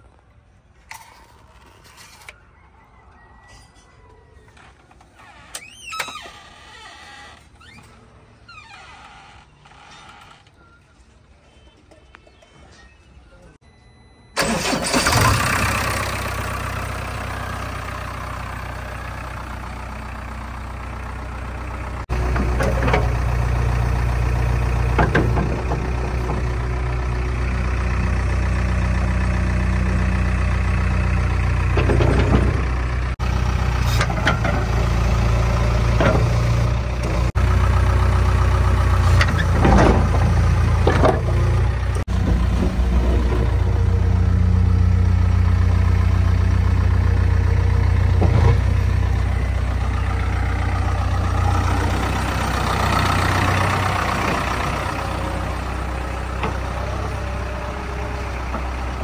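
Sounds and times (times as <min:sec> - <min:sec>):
diesel engine starting and running: 0:04.4 - 0:11.3, 0:12.8 - 0:59.0.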